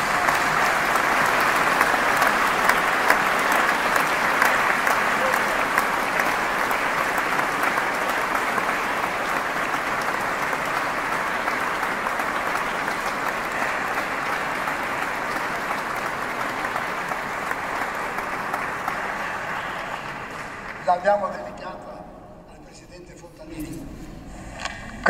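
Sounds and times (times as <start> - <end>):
audience applauding: 0.0 - 21.7.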